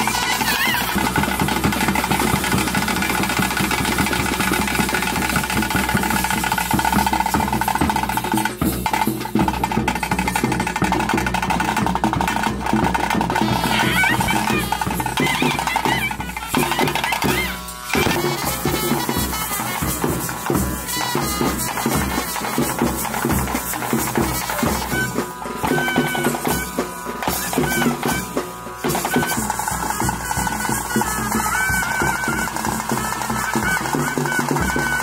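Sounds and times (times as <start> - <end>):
held wind instrument note: 0.0 - 10.4, 12.6 - 35.0
fast dense drumming: 0.0 - 35.0.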